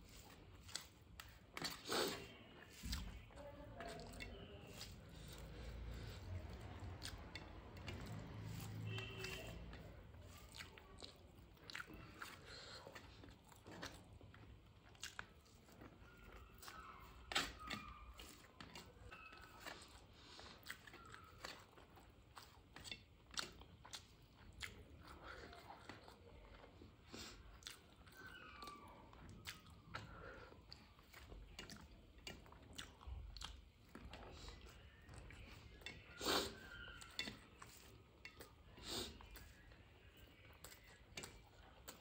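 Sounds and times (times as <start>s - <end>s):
chewing mouth sounds: 0.0s - 42.0s.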